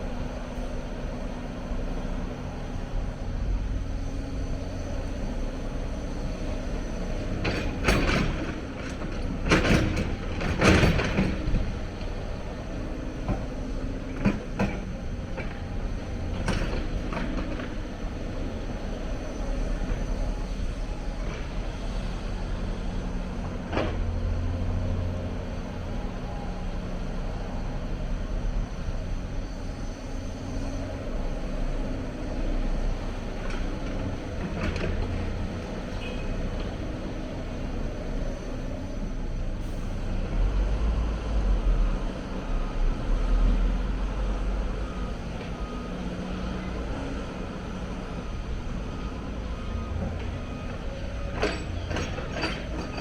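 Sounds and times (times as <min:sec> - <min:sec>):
excavator diesel engine working: 0:00.0 - 0:53.0.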